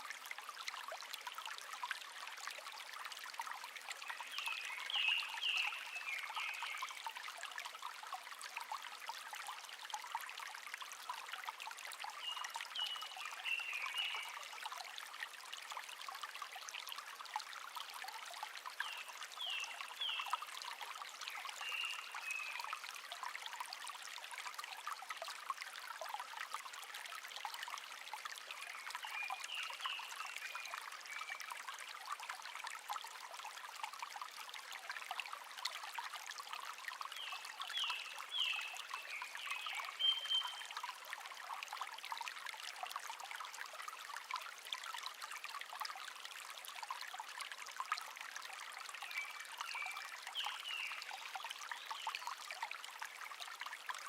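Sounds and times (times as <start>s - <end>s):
shallow stream babbling: 0.0s - 54.0s.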